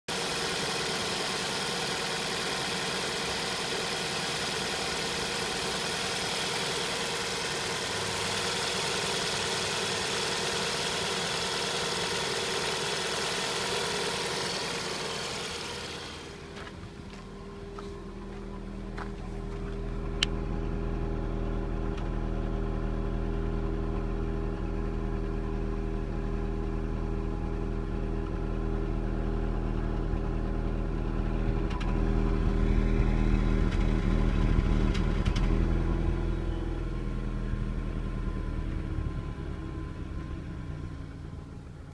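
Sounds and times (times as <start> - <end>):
car engine idling: 0.1 - 41.9.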